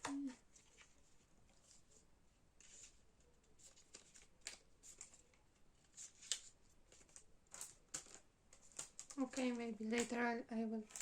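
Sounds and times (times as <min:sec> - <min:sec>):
paper rustling: 0:00.1 - 0:10.2.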